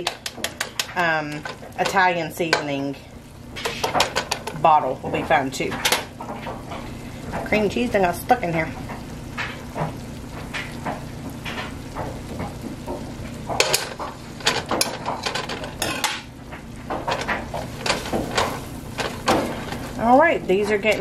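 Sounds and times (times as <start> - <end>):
butter sizzling: 0.0 - 21.0.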